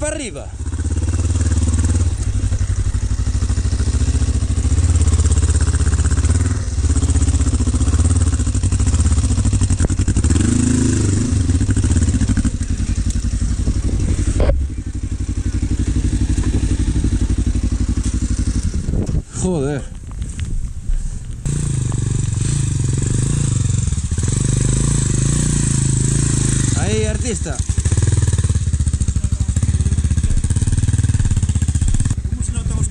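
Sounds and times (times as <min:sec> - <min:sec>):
motorcycle engine labouring: 0:00.0 - 0:32.9.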